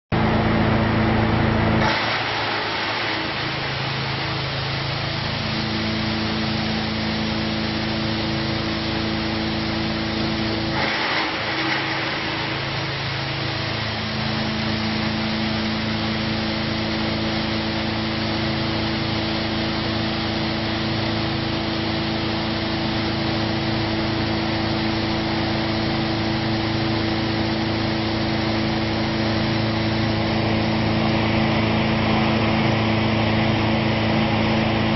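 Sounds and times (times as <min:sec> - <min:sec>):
wood grinder running: 0:00.2 - 0:34.9.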